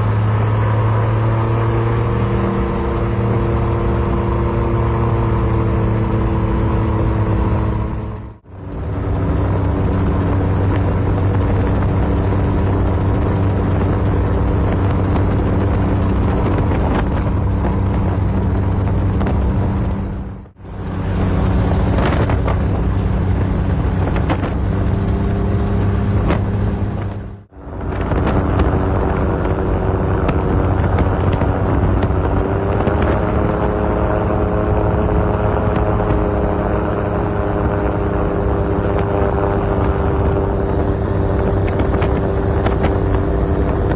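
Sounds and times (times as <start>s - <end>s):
helicopter drone with high whine: 0.0s - 43.9s.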